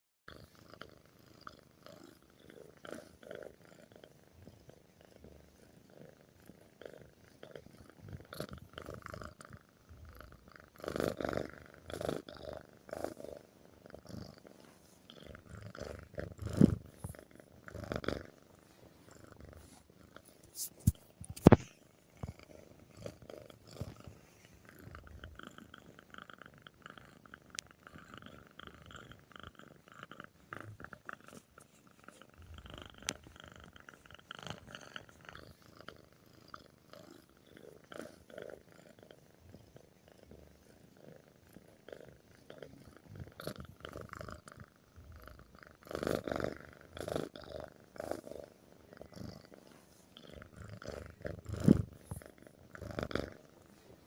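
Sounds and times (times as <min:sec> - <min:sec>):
cat purring: 0:00.3 - 0:54.0.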